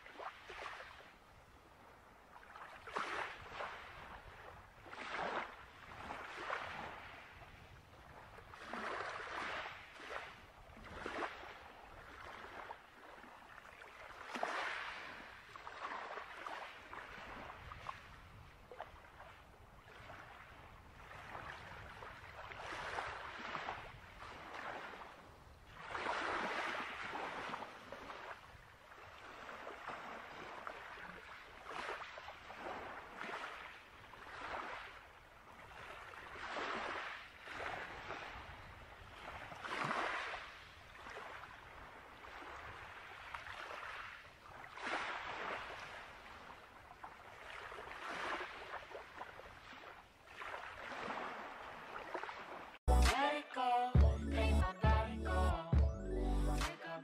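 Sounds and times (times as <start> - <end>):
small waves washing on sand: 0.0 - 53.3.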